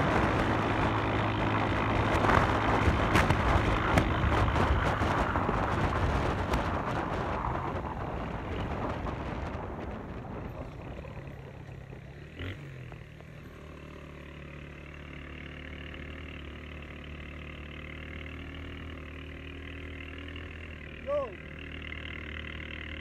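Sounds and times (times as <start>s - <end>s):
tyre and road noise: 0.0s - 23.0s
vehicle engine running: 0.0s - 23.0s.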